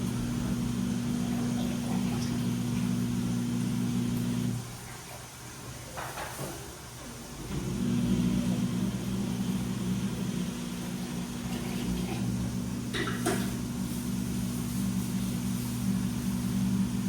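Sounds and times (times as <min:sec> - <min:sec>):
washing machine motor humming: 0:00.0 - 0:06.0, 0:06.8 - 0:17.0.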